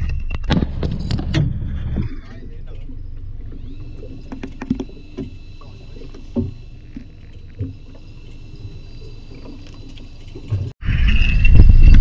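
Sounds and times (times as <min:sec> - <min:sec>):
boat engine rumble: 0:00.8 - 0:10.8
faint high whine: 0:02.2 - 0:12.0.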